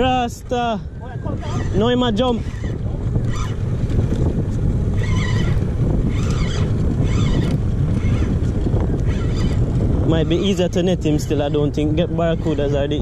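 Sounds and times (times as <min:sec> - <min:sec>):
fishing reel whirring: 0:00.0 - 0:13.0
outboard motor rumble: 0:00.0 - 0:13.0
wind on microphone: 0:00.0 - 0:13.0.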